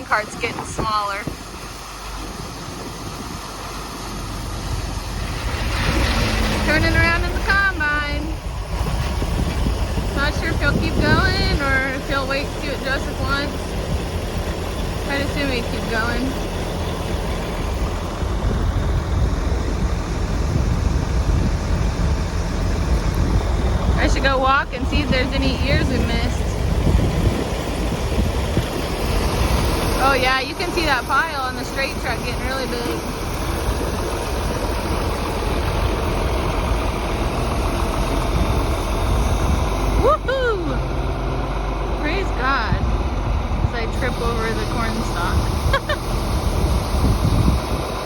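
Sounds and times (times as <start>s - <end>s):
auger unloading corn: 0.0s - 48.0s
tractor engine at high throttle: 0.0s - 48.0s.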